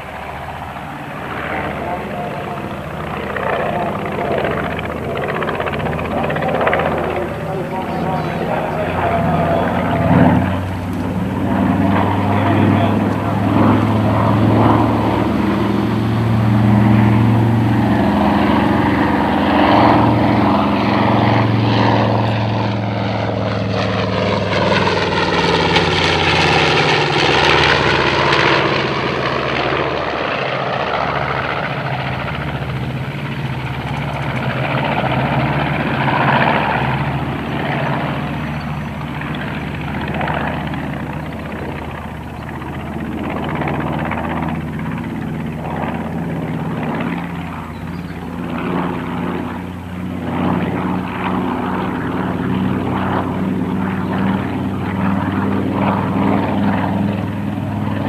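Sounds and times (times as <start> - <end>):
aircraft engines droning: 0.0 - 58.0.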